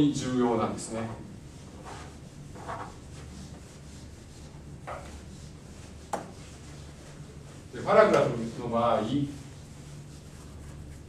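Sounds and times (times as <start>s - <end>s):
eraser wiping a whiteboard: 0.9s - 11.0s.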